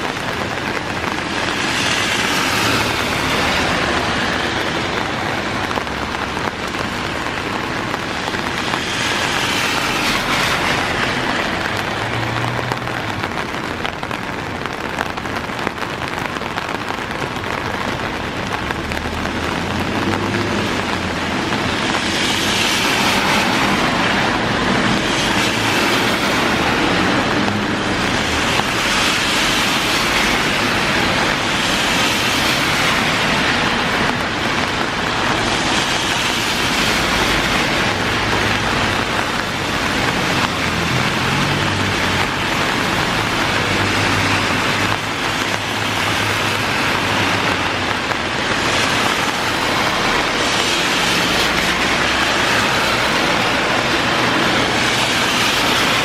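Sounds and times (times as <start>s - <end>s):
car tyres hissing on wet road: 0.0s - 56.0s
heavy rain pouring: 0.0s - 56.0s.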